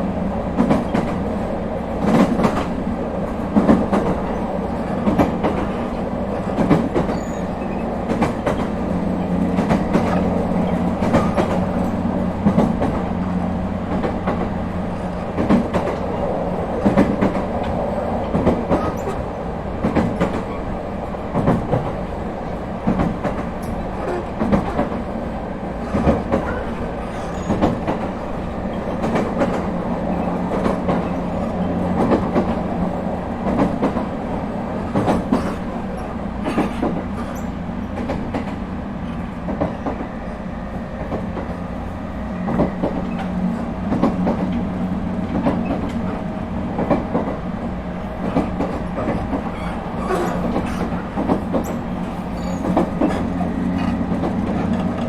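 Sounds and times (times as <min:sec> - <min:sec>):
electric train running rumble: 0:00.0 - 0:55.0
wheels clicking over rail joints: 0:00.5 - 0:25.1, 0:25.8 - 0:40.1, 0:42.3 - 0:55.0.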